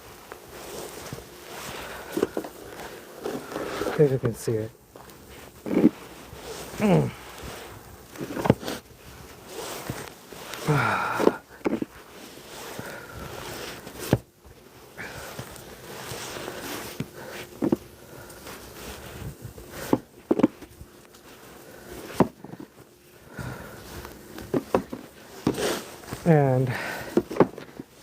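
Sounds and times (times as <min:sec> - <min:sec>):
snow shovel scraping snow: 0:00.0 - 0:28.0.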